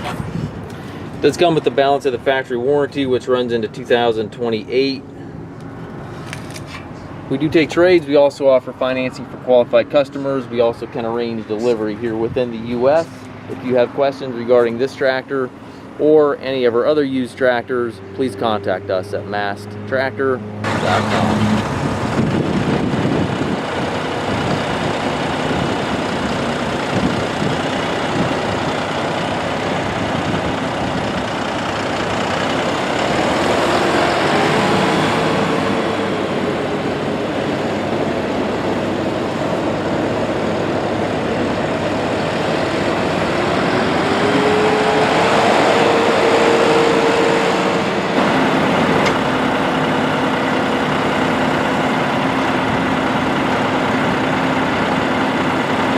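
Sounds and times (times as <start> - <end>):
diesel tractor engine revving: 0.0 - 55.9.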